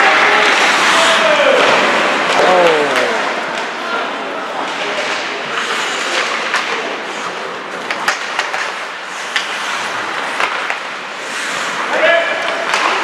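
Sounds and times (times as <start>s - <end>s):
arena crowd hubbub: 0.0s - 13.0s
hockey sticks and puck clacking: 0.0s - 13.0s.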